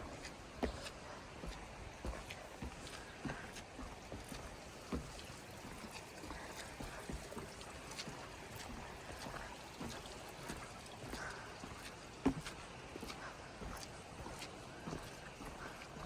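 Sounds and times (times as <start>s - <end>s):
light footsteps on trail: 0.0s - 16.0s.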